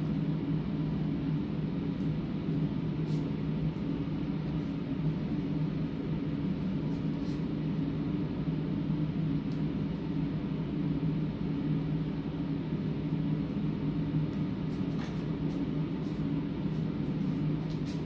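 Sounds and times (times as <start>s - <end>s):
ventilation system hum: 0.0s - 18.0s.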